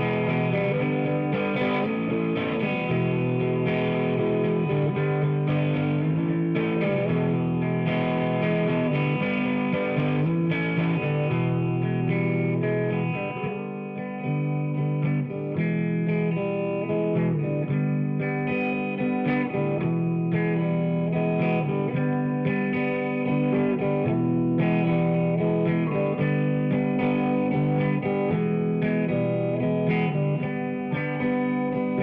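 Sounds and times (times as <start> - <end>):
distorted electric guitar chords: 0.0 - 32.0.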